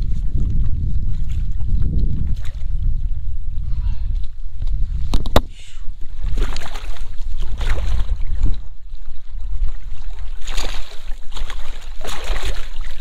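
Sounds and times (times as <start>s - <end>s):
low rumble on microphone: 0.0s - 13.0s
water splashing and sloshing: 0.0s - 13.0s.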